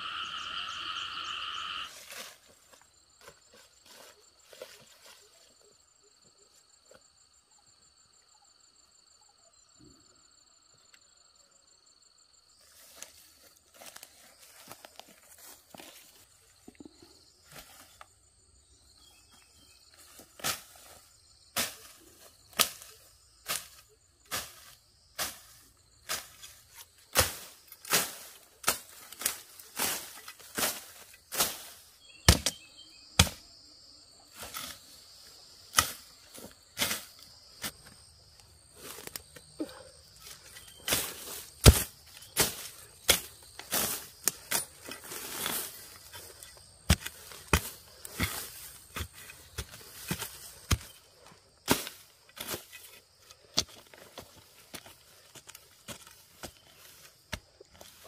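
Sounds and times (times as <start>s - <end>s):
high insect trill: 0.0s - 58.0s.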